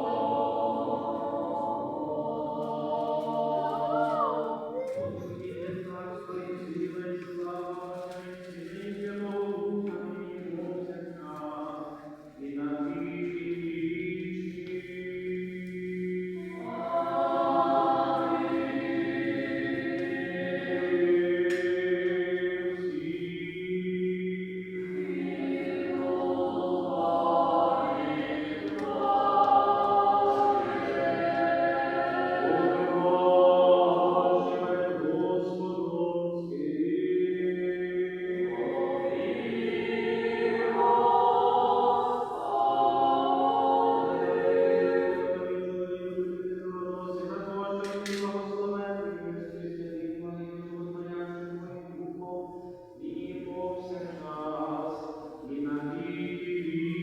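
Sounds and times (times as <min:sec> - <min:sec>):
choir singing a slow chant: 0:00.0 - 0:57.0.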